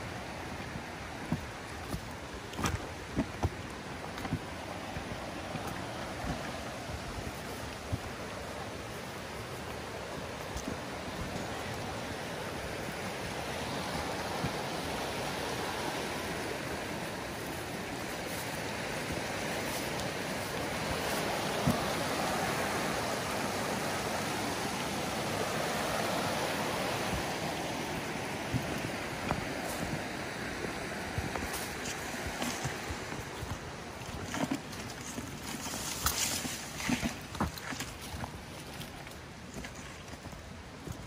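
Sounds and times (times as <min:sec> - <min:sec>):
stream babbling over rocks: 0:00.0 - 0:41.0.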